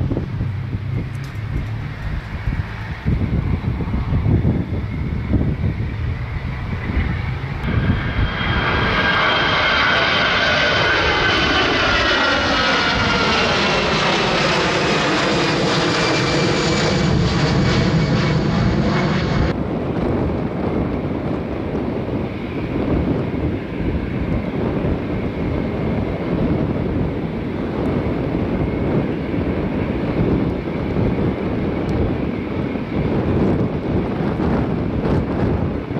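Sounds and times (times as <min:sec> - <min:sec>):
aircraft engine passing overhead: 0:00.0 - 0:35.9.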